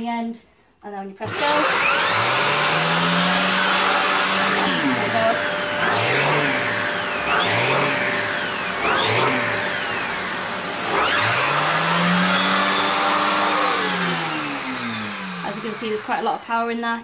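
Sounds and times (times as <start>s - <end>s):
vacuum cleaner on carpet: 1.2s - 17.0s.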